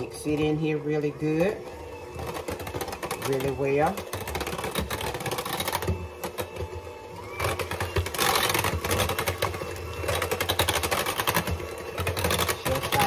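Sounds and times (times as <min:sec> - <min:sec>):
electric mixer beaters clattering: 0:00.0 - 0:13.0.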